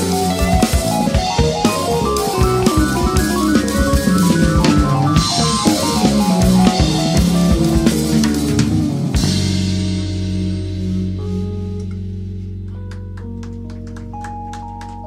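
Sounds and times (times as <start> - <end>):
jazz band playing: 0.0 - 14.8.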